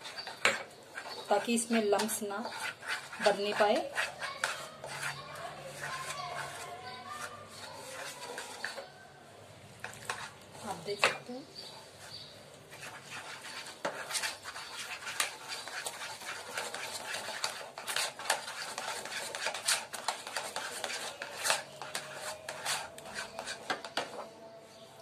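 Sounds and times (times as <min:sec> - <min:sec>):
spoon scraping bowl: 0:00.0 - 0:09.0, 0:09.8 - 0:24.8.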